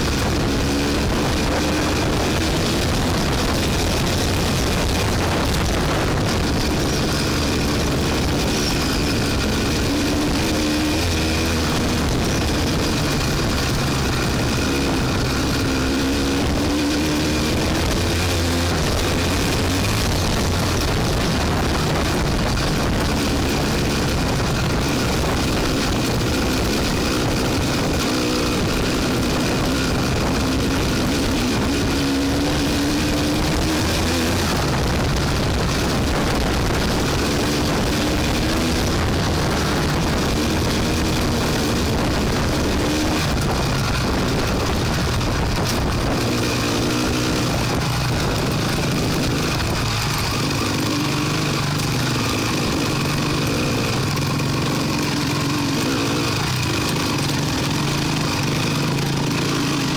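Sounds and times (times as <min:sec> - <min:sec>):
off-road vehicle engine: 0:00.0 - 0:59.9
wind noise: 0:00.0 - 0:59.9.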